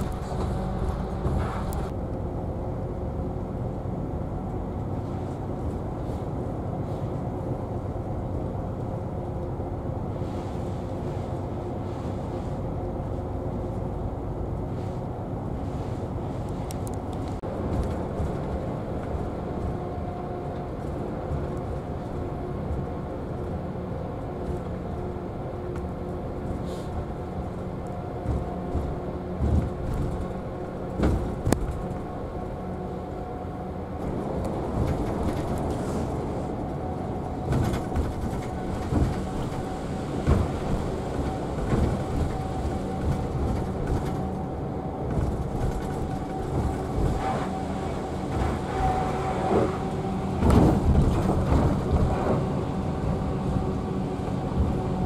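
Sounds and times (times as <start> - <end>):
bus engine drone: 0.0 - 55.0
road rumble: 0.0 - 55.0.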